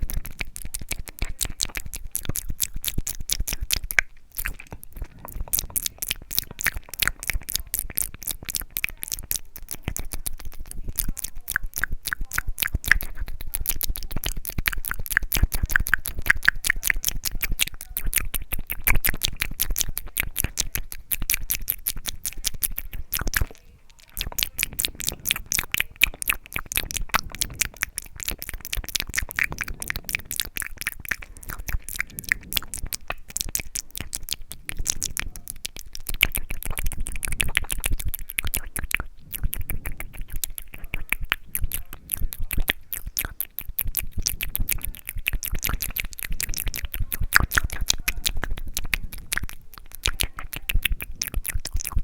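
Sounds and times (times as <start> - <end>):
wet mouth clicks and smacks: 0.0 - 52.0.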